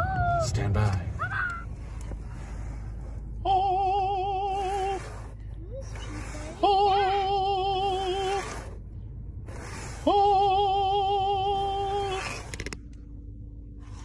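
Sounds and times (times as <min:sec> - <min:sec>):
car rumble: 0:00.0 - 0:14.0.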